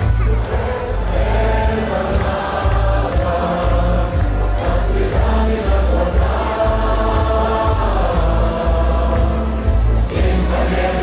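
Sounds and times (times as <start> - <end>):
choir singing held notes: 0.4 - 11.0.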